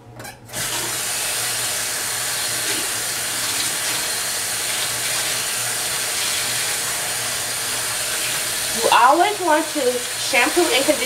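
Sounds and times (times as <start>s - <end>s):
tap water running into sink: 0.6s - 11.0s.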